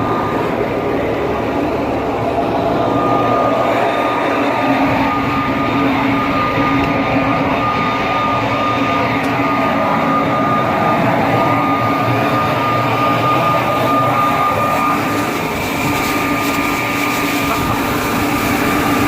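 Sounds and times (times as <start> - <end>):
truck engine drone with whine: 0.0 - 19.0.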